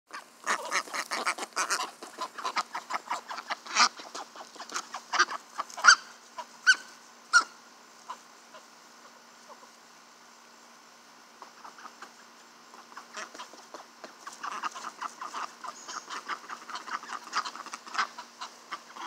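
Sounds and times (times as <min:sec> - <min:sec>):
ducks quacking: 0:00.1 - 0:09.7, 0:11.4 - 0:19.0.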